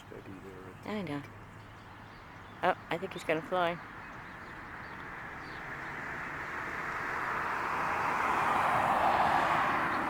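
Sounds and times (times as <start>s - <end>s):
vehicle tyre and road noise: 0.0s - 10.0s.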